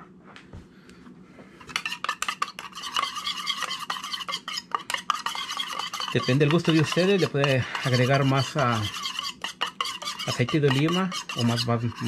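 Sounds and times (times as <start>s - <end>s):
spoon clinking in metal bowl: 1.7s - 12.0s.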